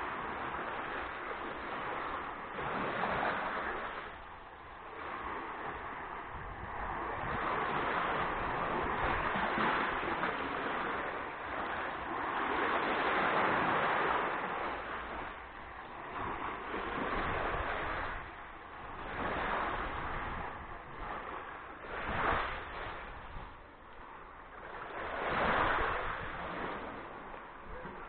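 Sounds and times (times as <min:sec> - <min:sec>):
sea waves washing onto shore: 0:00.0 - 0:28.0.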